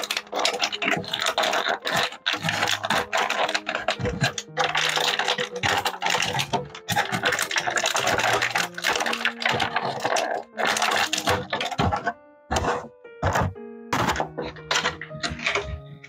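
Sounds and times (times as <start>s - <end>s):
packaging crinkling and clicking: 0.0s - 16.0s.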